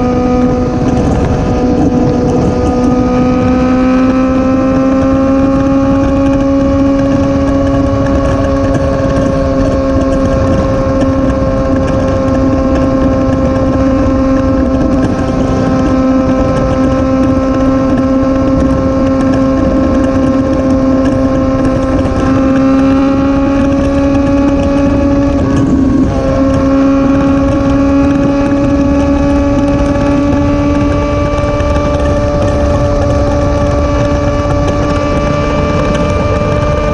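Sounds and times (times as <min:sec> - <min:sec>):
motorcycle engine cruising: 0:00.0 - 0:36.9
wind rushing over microphone: 0:00.0 - 0:36.9.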